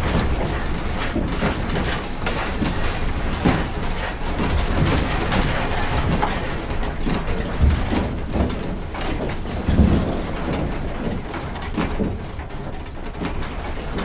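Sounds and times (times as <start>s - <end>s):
furniture rattling and knocking: 0.0s - 14.0s.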